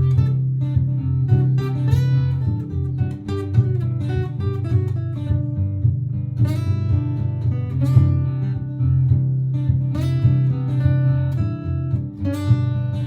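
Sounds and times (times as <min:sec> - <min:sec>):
acoustic guitar plucking and strumming: 0:00.0 - 0:13.0
looped guitar backing: 0:00.0 - 0:13.0.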